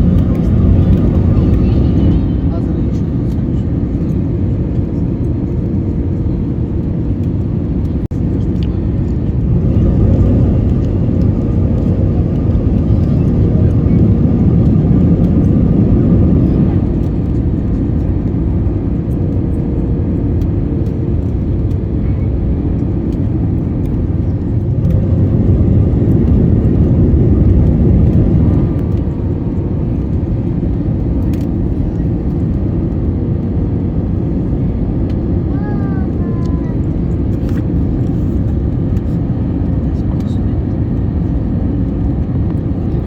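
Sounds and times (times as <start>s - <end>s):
airliner cabin rumble: 0.0s - 43.0s.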